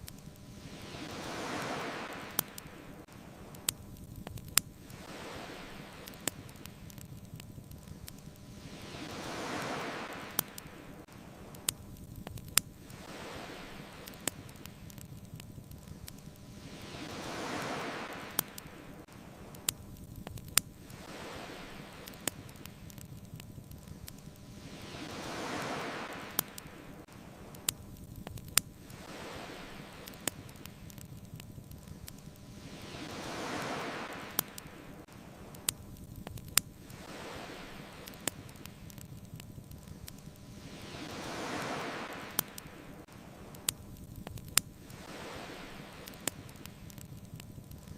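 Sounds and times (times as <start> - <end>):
ocean waves washing in: 0.0 - 47.9
wood fire popping and snapping: 0.0 - 47.9.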